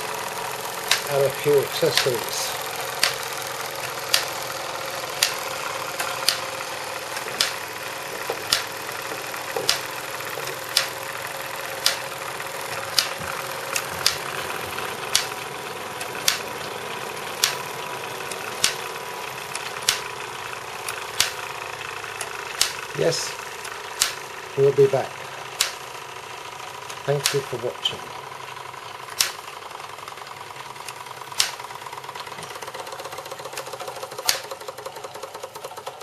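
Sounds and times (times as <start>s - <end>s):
toy steam engine whirring: 0.0s - 36.0s
sharp mechanical click: 0.8s - 14.4s, 15.0s - 17.7s, 18.3s - 18.9s, 19.5s - 20.2s, 20.8s - 24.3s, 25.5s - 26.0s, 26.8s - 27.6s, 29.0s - 36.0s.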